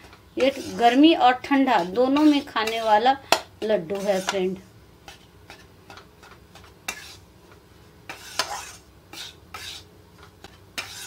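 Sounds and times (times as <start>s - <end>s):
spatula scraping metal pan: 0.0s - 7.2s, 8.1s - 9.9s, 10.8s - 11.0s.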